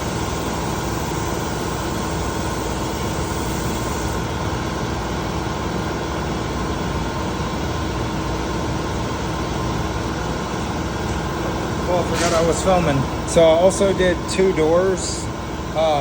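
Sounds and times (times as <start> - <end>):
machine humming with hiss: 0.0 - 16.0.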